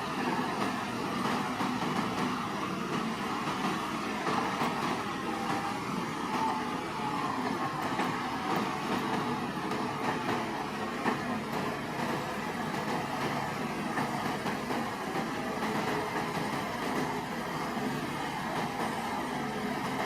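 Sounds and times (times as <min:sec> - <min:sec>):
bulldozer engine running: 0:00.0 - 0:20.0
steel tracks rattling: 0:00.0 - 0:20.0.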